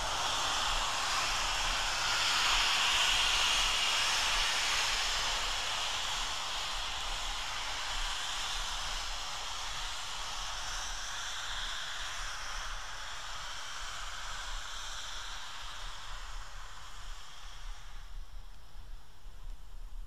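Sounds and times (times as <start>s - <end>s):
steam locomotive hissing steam: 0.0s - 20.0s.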